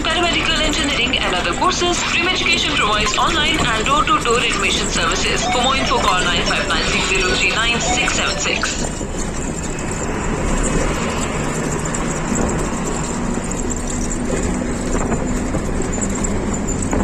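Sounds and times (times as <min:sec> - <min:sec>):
road noise: 0:00.0 - 0:17.0
truck engine: 0:00.0 - 0:17.0.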